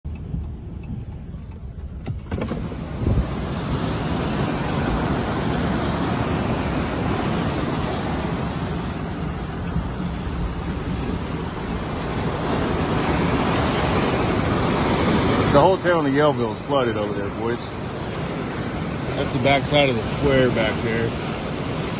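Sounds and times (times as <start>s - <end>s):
floodwater rushing: 2.0s - 21.9s
heavy rain: 2.4s - 21.9s.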